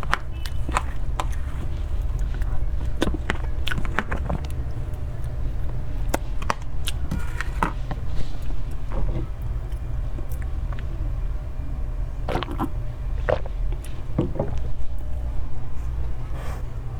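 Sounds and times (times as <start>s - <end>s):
soft chewing: 0.0s - 16.9s
steady low hum: 0.0s - 16.9s.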